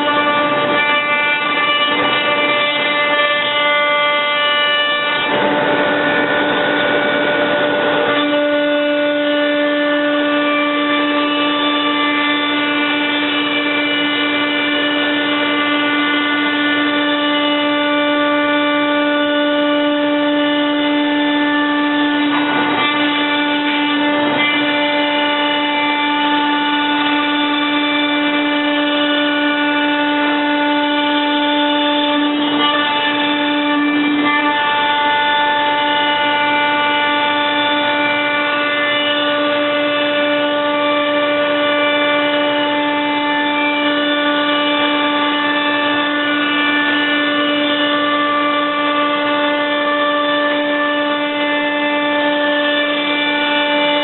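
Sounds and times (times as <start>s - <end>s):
harsh cutting noise: 0.0s - 54.0s
router spindle whine: 0.0s - 54.0s.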